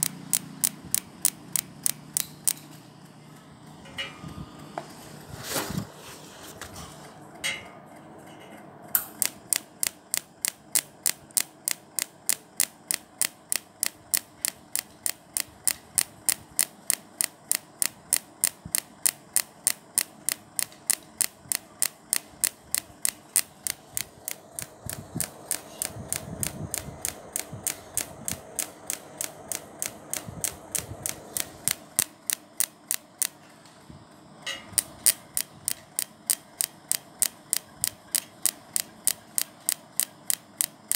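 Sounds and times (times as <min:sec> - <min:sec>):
welding machine pulse clicks: 0:00.0 - 0:05.0, 0:08.9 - 0:33.7, 0:34.5 - 0:40.9.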